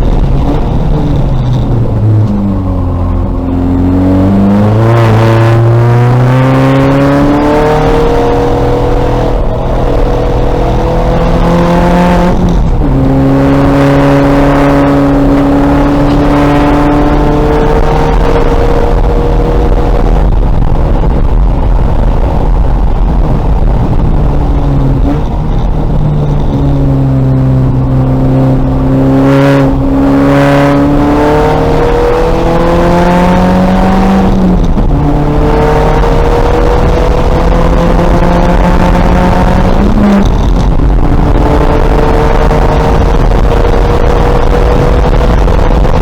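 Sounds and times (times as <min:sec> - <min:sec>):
car engine accelerating hard: 0:00.0 - 0:46.0
road and wind noise: 0:00.0 - 0:46.0.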